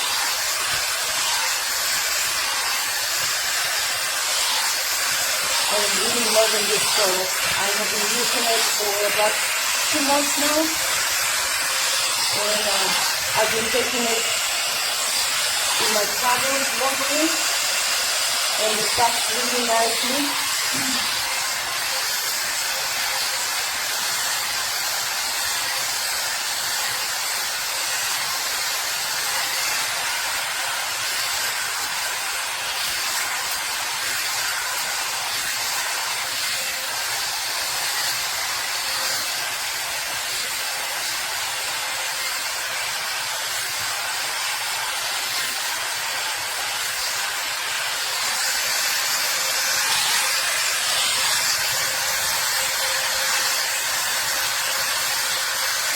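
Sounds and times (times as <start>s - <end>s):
hot air brush blowing: 0.0s - 55.9s.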